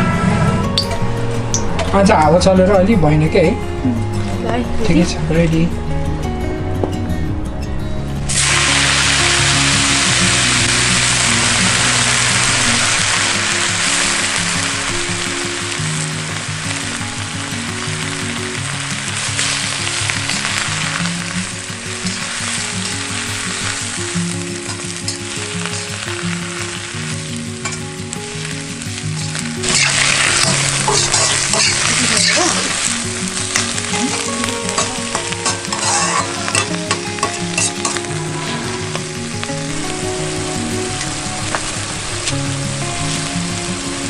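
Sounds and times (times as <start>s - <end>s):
background music: 0.0s - 44.0s
food sizzling in a pan: 8.3s - 44.0s.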